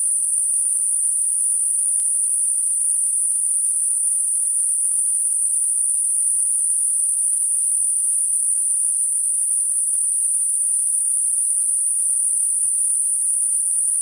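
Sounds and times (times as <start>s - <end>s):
high-pitched steady hiss: 0.0s - 14.0s.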